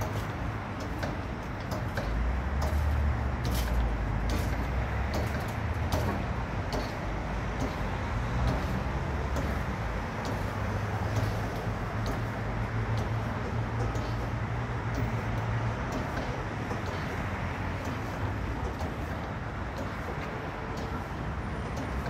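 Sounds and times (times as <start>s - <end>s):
light clicks and knocks: 0.0s - 22.0s.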